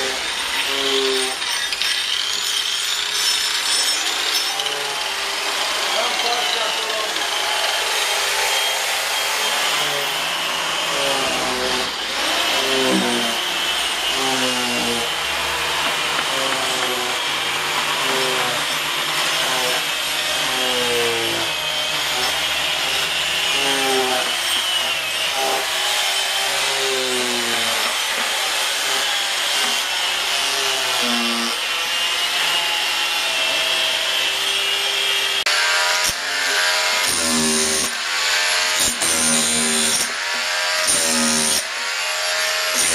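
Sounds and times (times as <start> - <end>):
electric drill boring into log: 0.0 - 42.9
power tools grinding wood: 0.0 - 42.9.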